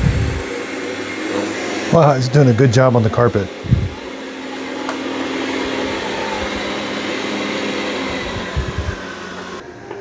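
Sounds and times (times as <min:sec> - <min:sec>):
robot vacuum whirring: 0:00.0 - 0:09.6.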